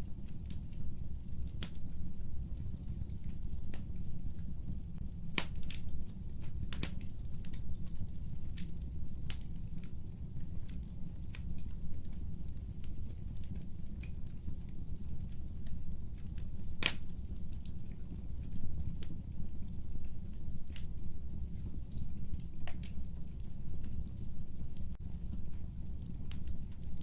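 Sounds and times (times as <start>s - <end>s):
fireplace fire crackling: 0.0s - 27.0s.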